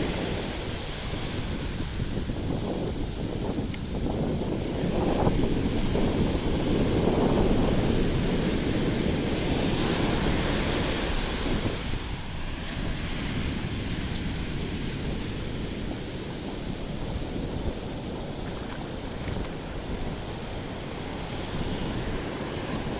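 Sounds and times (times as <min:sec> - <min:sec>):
sea waves washing onto beach: 0:00.0 - 0:22.9
wind buffeting microphone: 0:00.0 - 0:22.9.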